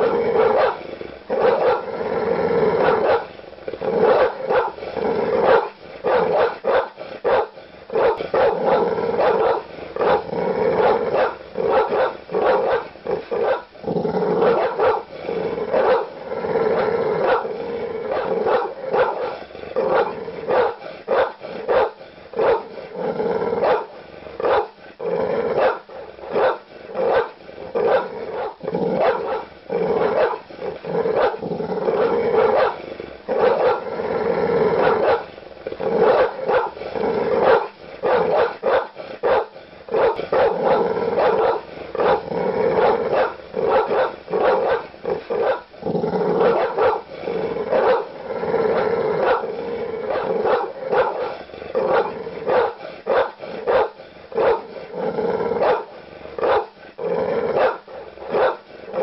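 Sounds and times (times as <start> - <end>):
dogs growling: 0.0 - 59.0
large dogs barking aggressively: 0.0 - 59.0.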